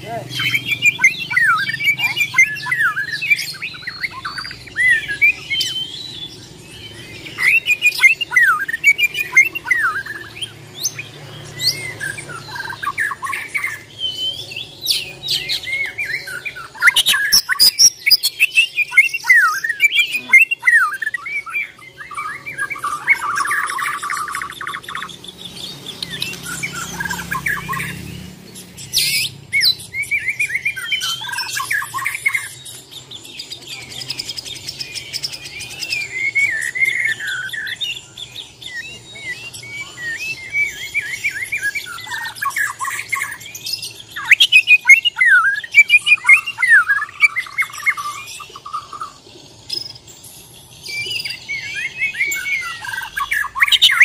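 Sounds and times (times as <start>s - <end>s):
songbird whistling phrases: 0.0s - 28.1s, 28.8s - 50.0s, 50.8s - 54.0s.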